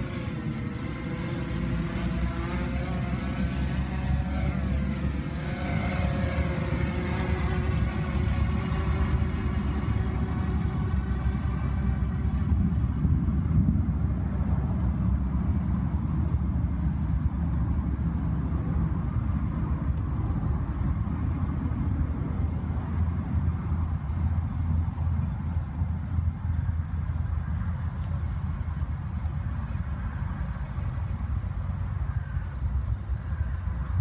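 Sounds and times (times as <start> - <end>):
quadcopter propellers humming: 0.0 - 34.0
steady low rumble: 0.0 - 34.0.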